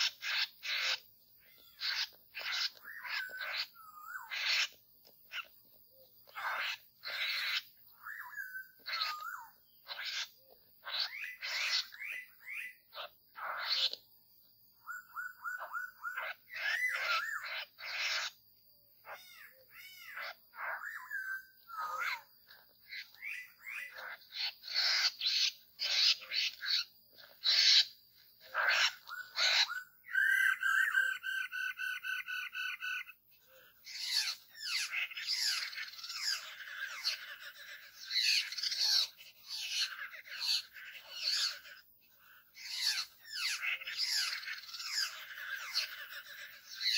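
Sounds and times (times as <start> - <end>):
birds whistling and chattering: 0.0 - 46.9.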